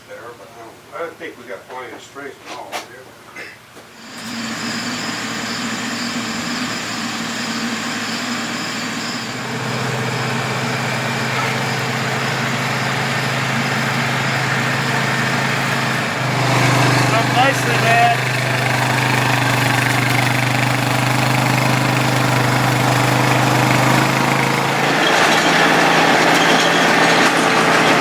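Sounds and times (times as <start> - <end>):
engine droning: 4.0 - 28.0.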